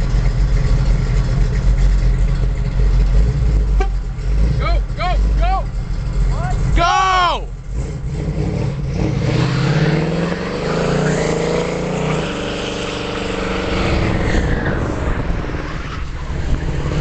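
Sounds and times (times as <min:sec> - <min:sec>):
vehicle engine accelerating: 0:00.0 - 0:06.8, 0:07.5 - 0:17.0.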